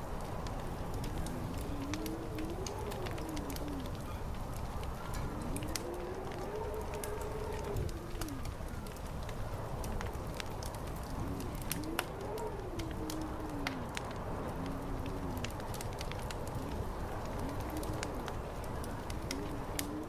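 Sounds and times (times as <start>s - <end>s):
fire crackling and popping: 0.0s - 20.0s
low fire rumble: 0.0s - 20.0s
wind howling: 0.0s - 20.0s.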